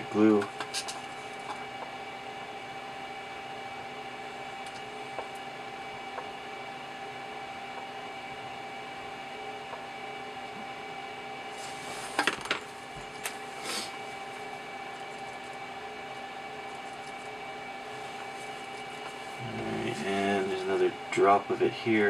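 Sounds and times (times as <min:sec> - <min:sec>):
fan hum: 0:00.0 - 0:22.0.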